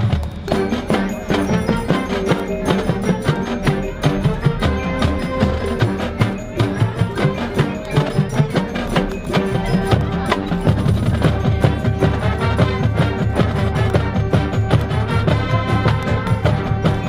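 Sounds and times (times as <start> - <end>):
drums: 0.0 - 17.0
mallet percussion: 0.0 - 17.0
marching band playing: 0.0 - 17.0.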